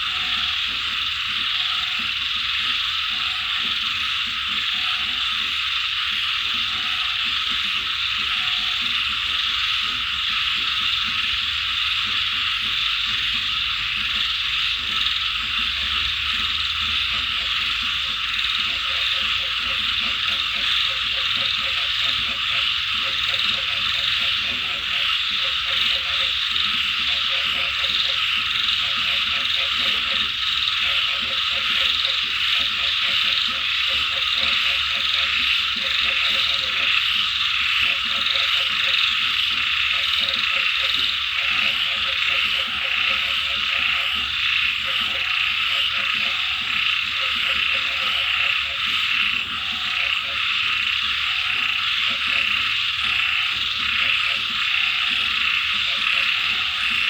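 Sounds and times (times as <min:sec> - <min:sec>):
frogs croaking: 0:00.0 - 0:57.0
high-pitched insect chorus: 0:00.0 - 0:57.0.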